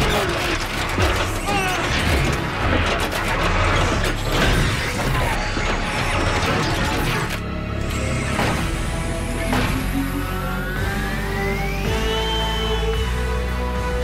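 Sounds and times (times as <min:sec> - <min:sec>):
robotic machinery whirring and clanking: 0:00.0 - 0:12.2
dramatic background music: 0:00.0 - 0:14.0.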